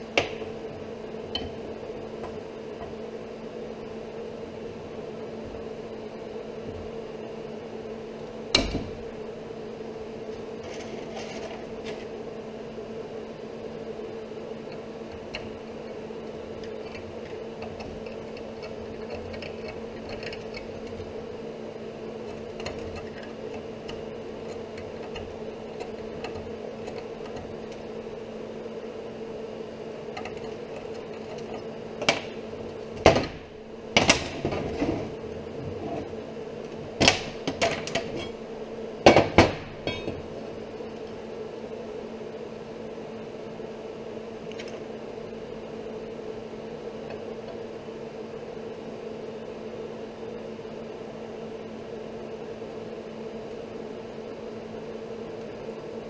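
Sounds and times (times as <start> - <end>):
two-tone machine hum: 0.0 - 56.0.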